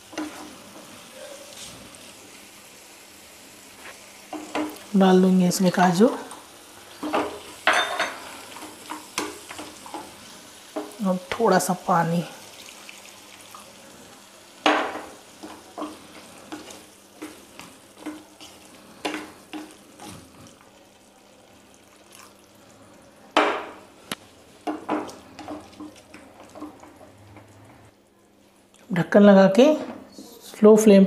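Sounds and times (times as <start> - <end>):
low sizzle: 0.0 - 31.0.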